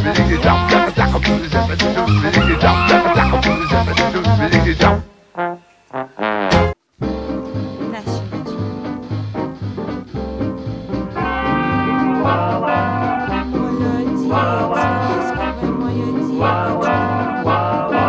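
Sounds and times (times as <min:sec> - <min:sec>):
walking bass: 0:00.0 - 0:05.1, 0:06.5 - 0:18.0
swing music with brass horns: 0:00.0 - 0:18.0.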